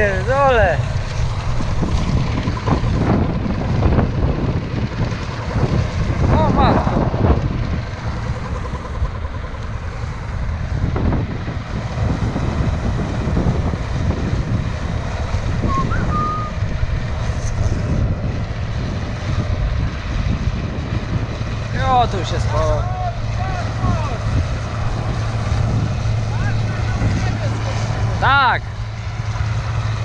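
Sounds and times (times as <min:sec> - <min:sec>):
farm machinery running: 0:00.0 - 0:30.0
wind buffeting microphone: 0:00.0 - 0:30.0.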